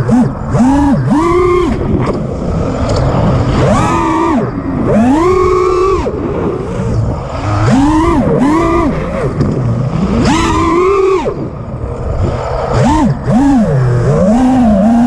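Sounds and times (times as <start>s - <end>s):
drone motors whining: 0.0s - 15.0s
wind rushing: 0.5s - 13.4s.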